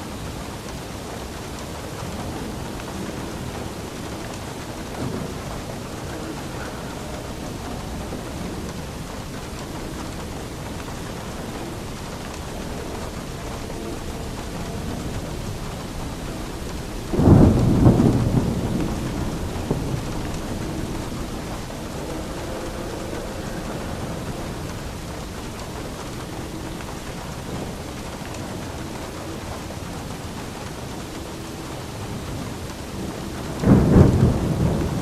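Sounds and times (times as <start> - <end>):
steady rain falling: 0.0 - 35.0
thunder clap rumbling: 0.1 - 35.0.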